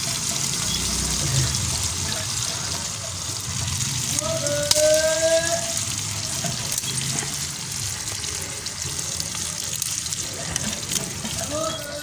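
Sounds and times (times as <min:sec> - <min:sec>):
potato slices sizzling in oil: 0:00.0 - 0:12.0.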